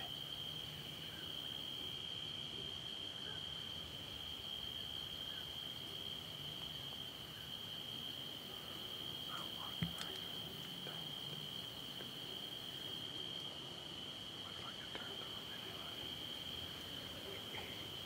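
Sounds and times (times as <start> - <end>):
crickets trilling: 0.0 - 18.0
faint background hiss: 0.0 - 18.0.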